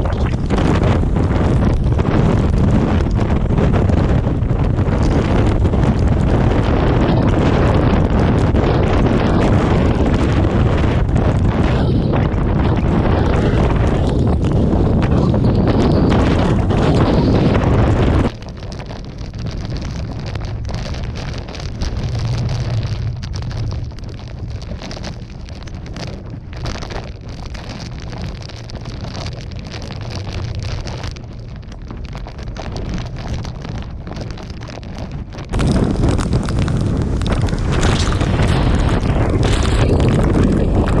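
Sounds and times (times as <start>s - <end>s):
rain: 0.0s - 41.0s
wind buffeting microphone: 0.0s - 41.0s.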